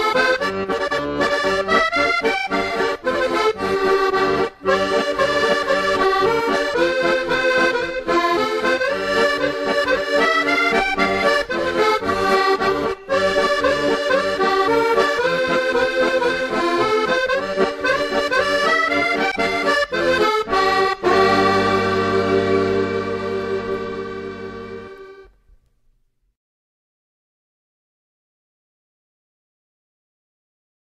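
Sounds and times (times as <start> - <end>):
accordion playing a quick tune: 0.0 - 25.4.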